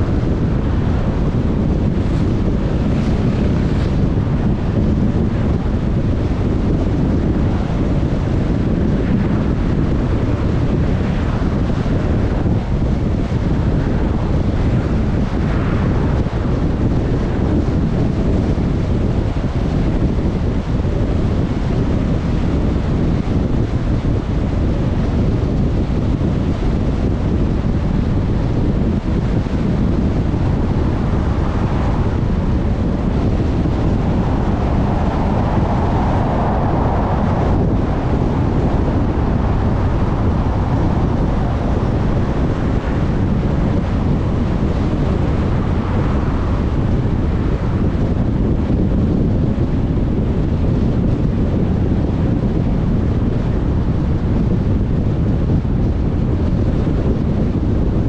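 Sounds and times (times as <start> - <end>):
car driving rumble: 0.0 - 50.2
wind on microphone: 0.0 - 58.0.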